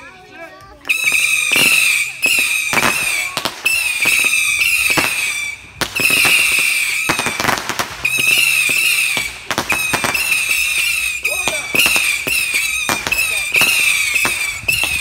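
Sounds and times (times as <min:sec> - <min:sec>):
firework bangs and crackles: 0:00.6 - 0:15.0
whistling firework shots: 0:00.8 - 0:15.0.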